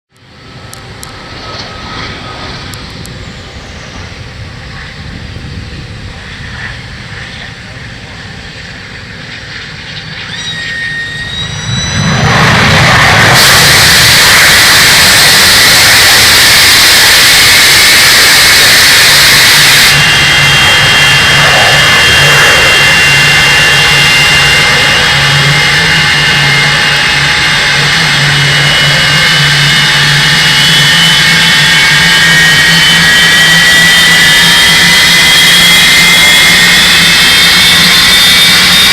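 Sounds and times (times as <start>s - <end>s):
high steady whine tones: 0.1s - 38.9s
loud steady jet roar: 0.1s - 38.9s
rising whine: 0.1s - 38.9s
jet engine spooling up: 0.2s - 38.9s.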